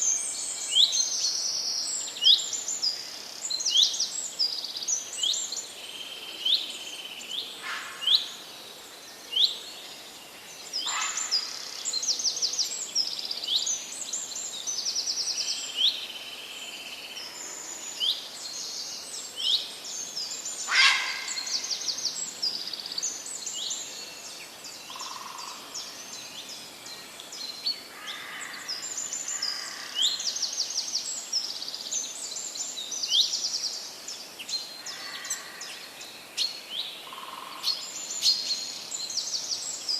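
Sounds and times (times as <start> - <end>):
light outdoor background: 0.0 - 39.9
songbirds chirping and singing: 0.0 - 39.9.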